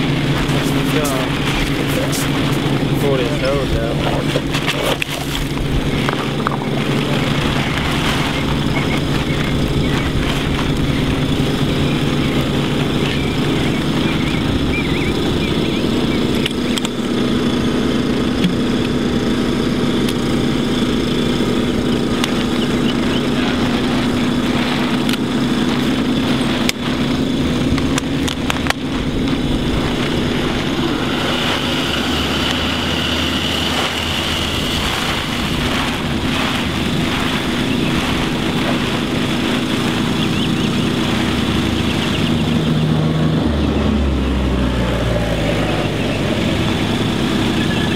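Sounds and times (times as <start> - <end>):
water pump engine running: 0.0 - 47.9.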